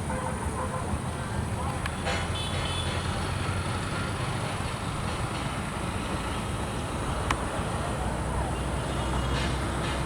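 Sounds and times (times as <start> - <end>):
freight train rumbling: 0.0 - 10.0.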